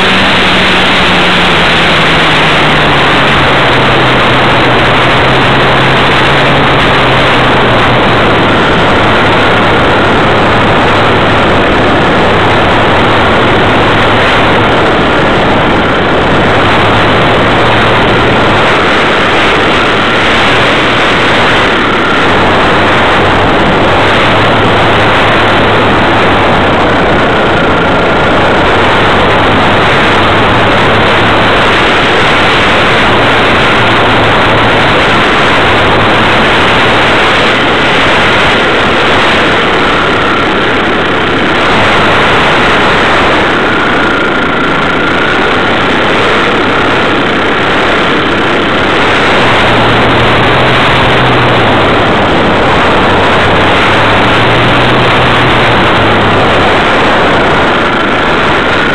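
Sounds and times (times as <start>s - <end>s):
plane engine and propeller drone: 0.0s - 58.9s
wind rush over microphone: 0.0s - 58.9s.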